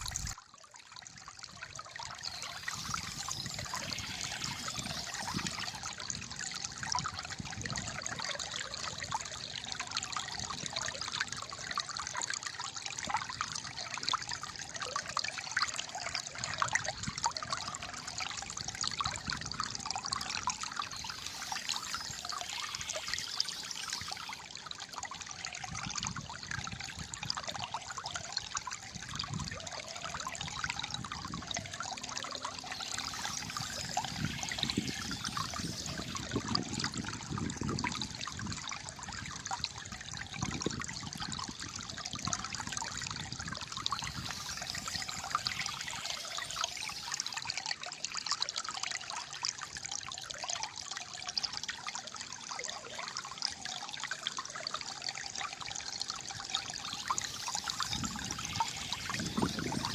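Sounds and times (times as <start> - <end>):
water gurgling and trickling: 0.0 - 59.9.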